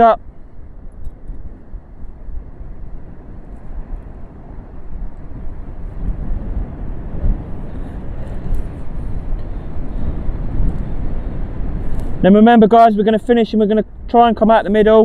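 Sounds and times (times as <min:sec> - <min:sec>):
rough surf: 0:00.0 - 0:15.0
wind buffeting microphone: 0:00.0 - 0:15.0.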